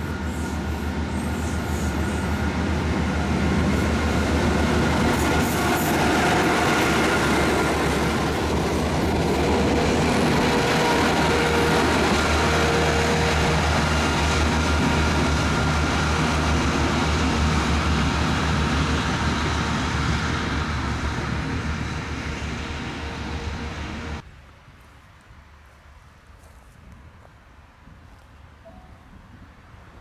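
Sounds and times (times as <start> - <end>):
low train rumble: 0.0 - 30.0.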